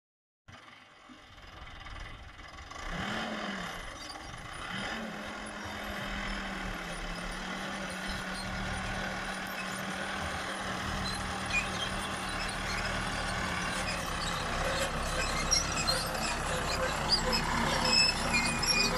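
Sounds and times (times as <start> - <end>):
tractor engine running: 0.5 - 18.9.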